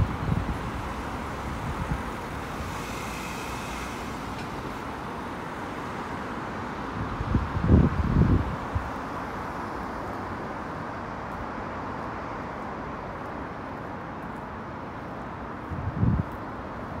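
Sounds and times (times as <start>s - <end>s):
city road traffic hum: 0.0s - 17.0s.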